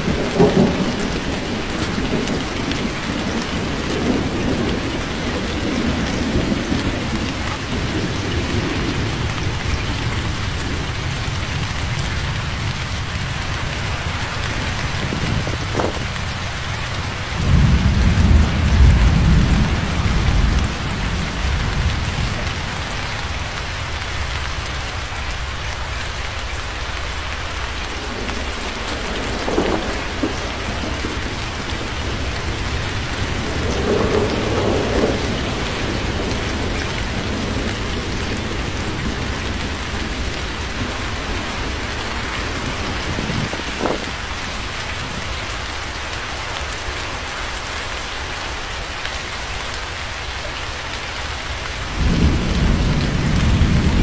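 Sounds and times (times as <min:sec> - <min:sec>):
rolling thunder: 0:00.0 - 0:25.5, 0:26.8 - 0:45.9, 0:51.5 - 0:54.0
heavy rain falling: 0:00.0 - 0:54.0.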